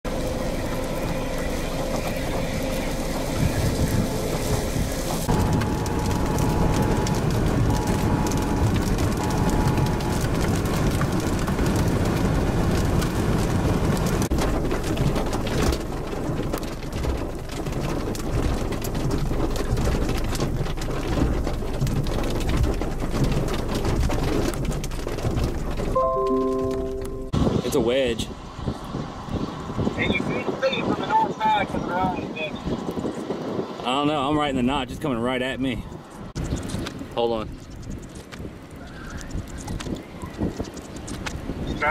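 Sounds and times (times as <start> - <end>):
wind and rain rushing: 0.0 - 41.9
crackles: 0.1 - 27.4, 35.4 - 41.9.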